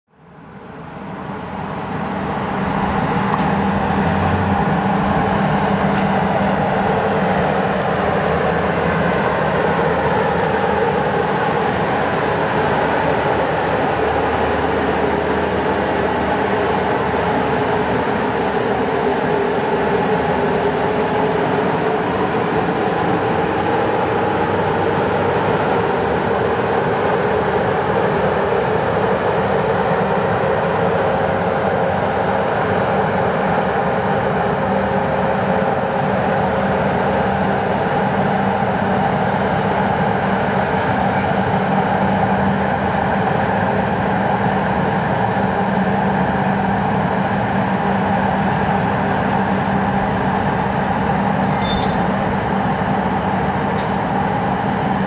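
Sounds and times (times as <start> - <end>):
rail running noise: 0.1 - 55.0
electric locomotive passing: 0.2 - 55.0.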